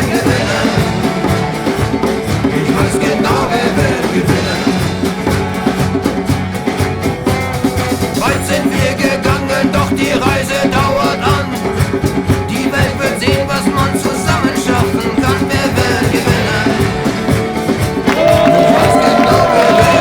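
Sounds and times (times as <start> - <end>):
upbeat music with fast beat: 0.0 - 20.0.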